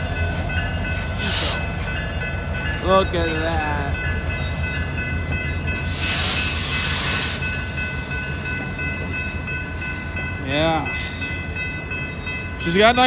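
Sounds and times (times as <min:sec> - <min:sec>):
crossing bell ringing: 0:00.0 - 0:13.0
train wheels rumbling on rails: 0:00.0 - 0:13.0.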